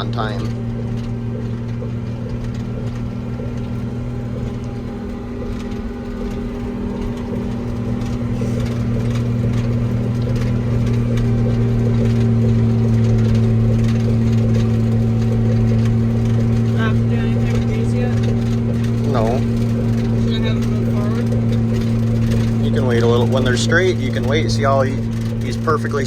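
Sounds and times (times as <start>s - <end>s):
machine engine droning: 0.0s - 26.0s.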